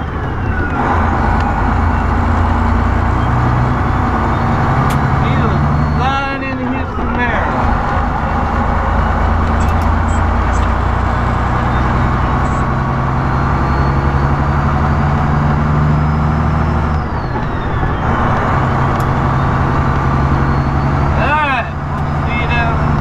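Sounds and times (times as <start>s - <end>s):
road noise: 0.0s - 23.0s
truck diesel engine running: 0.0s - 23.0s.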